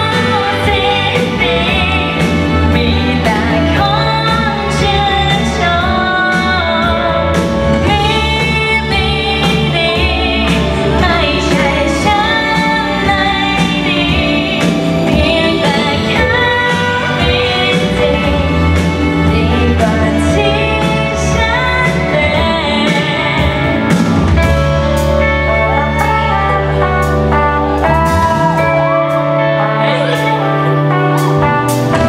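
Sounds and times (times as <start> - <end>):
pop backing music: 0.0 - 32.0
woman singing into microphone: 0.0 - 32.0.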